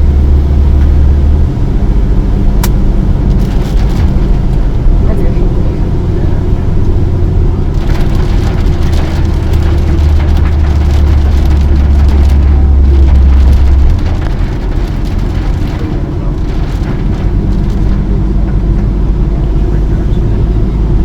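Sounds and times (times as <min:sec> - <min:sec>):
rain ticking on vehicle: 0:00.0 - 0:21.0
vehicle engine and road drone: 0:00.0 - 0:21.0.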